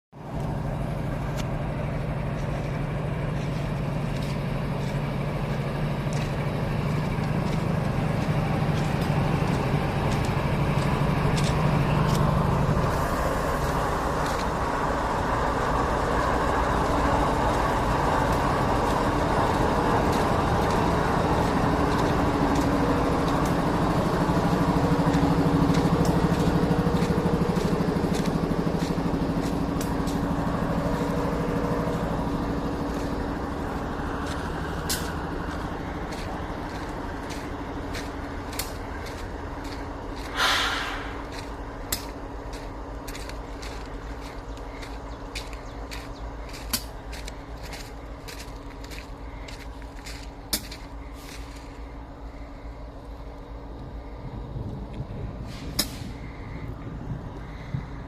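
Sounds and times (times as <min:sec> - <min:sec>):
diesel locomotive engines droning: 0:00.1 - 0:58.0
higher hum: 0:00.4 - 0:57.9.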